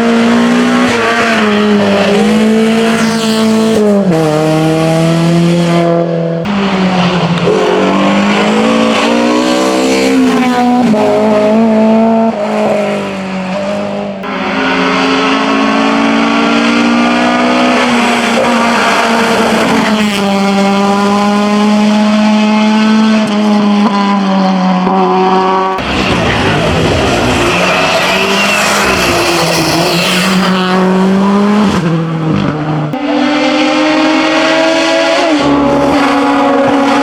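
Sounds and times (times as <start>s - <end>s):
race car engine at full throttle: 0.0s - 37.0s.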